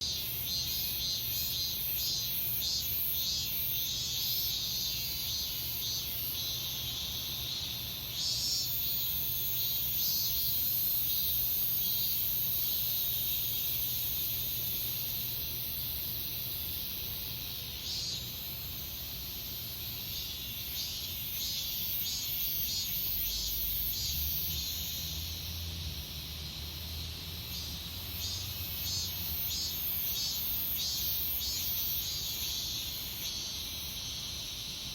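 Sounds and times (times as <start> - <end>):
cicadas pulsing calls: 0.0 - 34.9.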